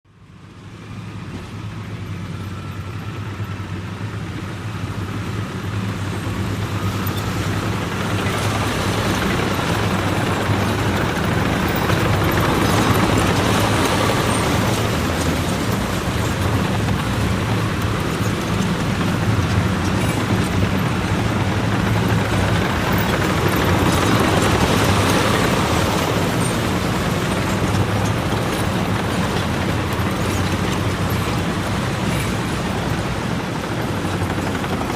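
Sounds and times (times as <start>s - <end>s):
tanks rumbling past: 0.3s - 34.9s.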